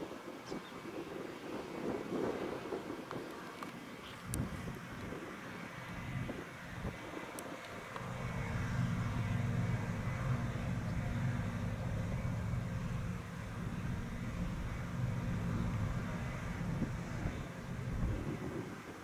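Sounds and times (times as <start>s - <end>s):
combine harvester engine drone: 3.3s - 19.0s.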